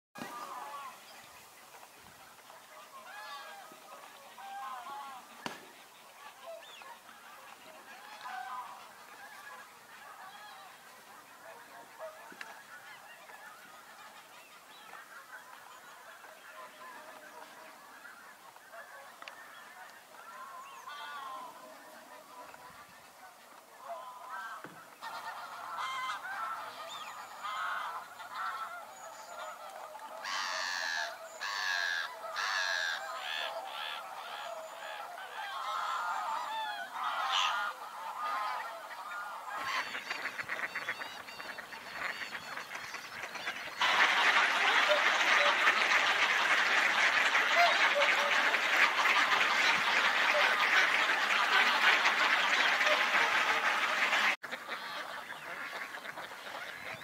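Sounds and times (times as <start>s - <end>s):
swans and ducks honking: 0.2s - 57.0s
wildfowl calls: 0.2s - 57.0s.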